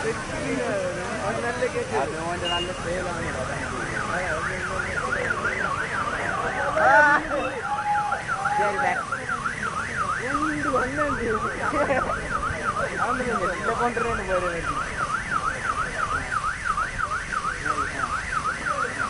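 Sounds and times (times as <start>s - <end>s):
electronic siren warbling: 3.4s - 19.0s.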